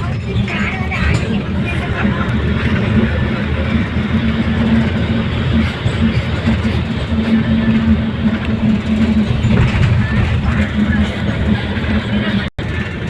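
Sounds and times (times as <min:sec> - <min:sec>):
road noise: 0:00.0 - 0:13.0
vehicle engine: 0:00.0 - 0:13.0.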